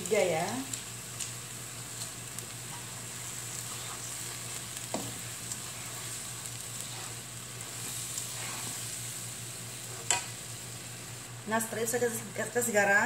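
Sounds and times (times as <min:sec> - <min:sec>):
spice paste sizzling in a wok: 0:00.0 - 0:13.0.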